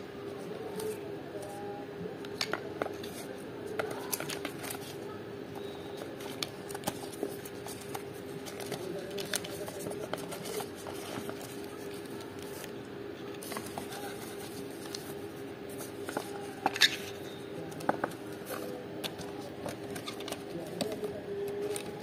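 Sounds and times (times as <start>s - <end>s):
steady hum: 0.0s - 22.0s
cardboard and paper rustling: 2.4s - 22.0s.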